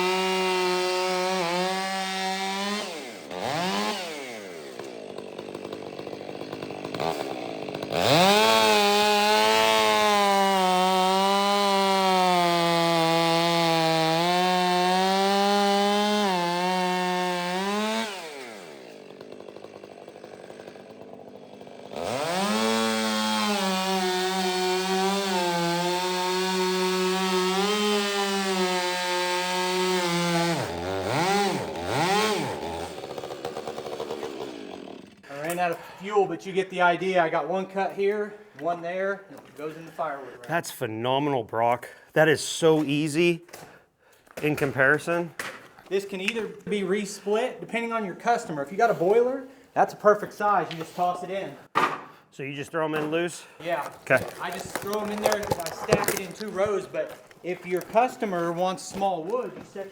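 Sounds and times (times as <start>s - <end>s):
chainsaw cutting at full throttle: 0.0s - 36.2s, 45.9s - 51.7s, 53.3s - 59.9s.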